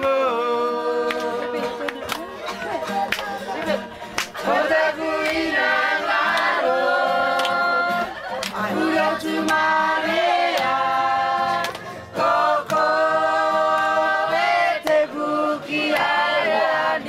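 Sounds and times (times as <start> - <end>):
group singing a cappella: 0.0 - 2.1, 3.7 - 17.0.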